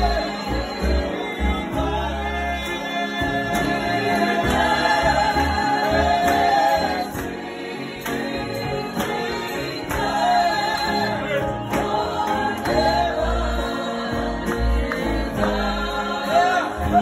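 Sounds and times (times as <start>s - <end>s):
piano accompaniment: 0.0s - 17.0s
women singing gospel in harmony: 0.0s - 17.0s.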